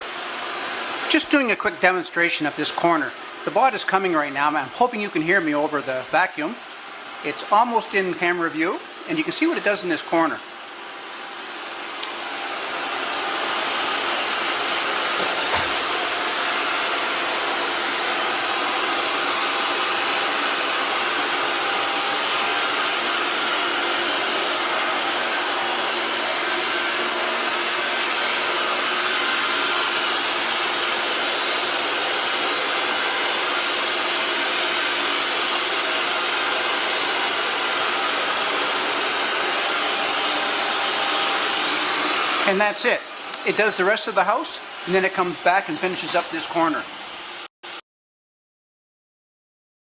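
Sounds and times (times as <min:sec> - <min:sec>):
robot vacuum cleaner whirring: 0:00.0 - 0:47.8.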